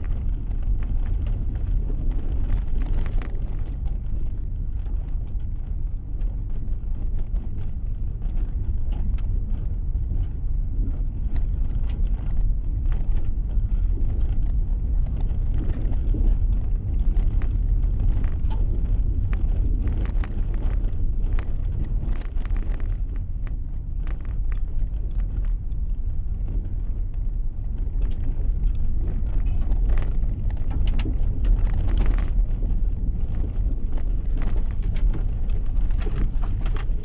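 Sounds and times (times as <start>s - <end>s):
car driving interior rumble: 0.0s - 37.0s
faint ticks and rattles: 0.0s - 37.0s.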